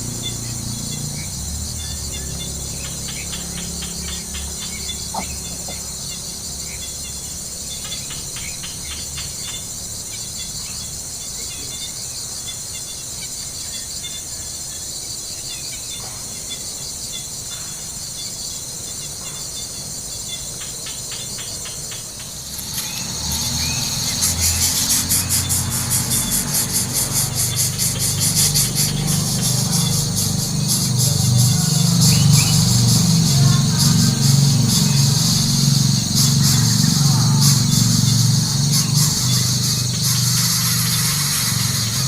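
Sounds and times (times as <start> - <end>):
crickets and insects trilling: 0.0 - 42.0
fast-pulsing insect sound: 0.0 - 42.0.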